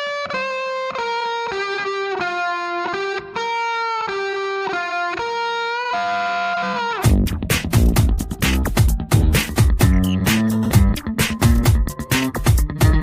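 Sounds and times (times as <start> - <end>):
solo guitar slow melody: 0.0 - 7.1, 9.0 - 13.0.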